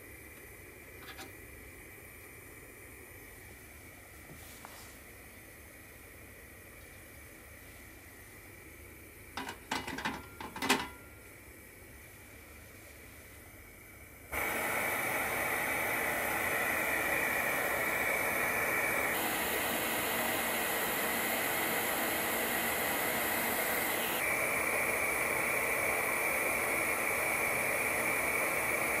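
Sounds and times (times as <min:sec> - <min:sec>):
gas burner hissing: 0:00.0 - 0:29.0.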